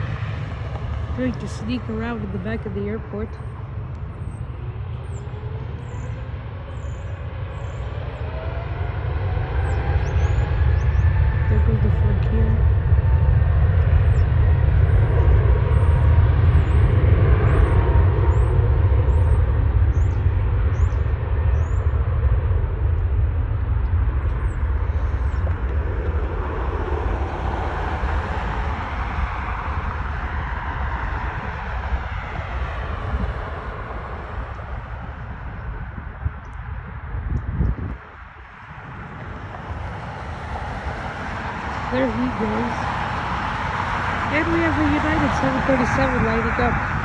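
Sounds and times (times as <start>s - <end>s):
jet engines at takeoff thrust: 0.0s - 47.0s.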